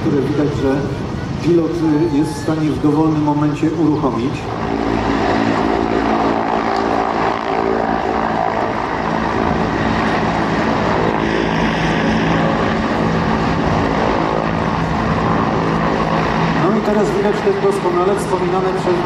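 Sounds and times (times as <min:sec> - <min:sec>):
helicopters flying past: 0:00.0 - 0:19.0.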